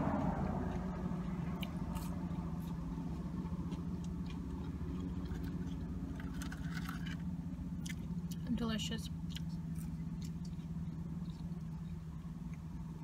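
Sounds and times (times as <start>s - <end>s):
low hum inside car: 0.0s - 13.0s
chewing fries: 0.2s - 13.0s.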